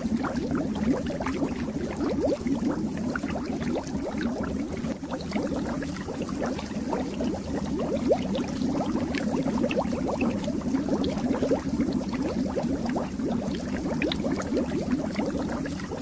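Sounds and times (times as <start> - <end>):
fish tank water bubbling: 0.0 - 16.0.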